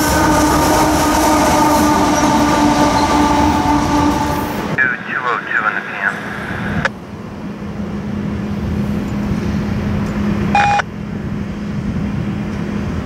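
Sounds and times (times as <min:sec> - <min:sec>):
train droning: 0:00.0 - 0:13.0.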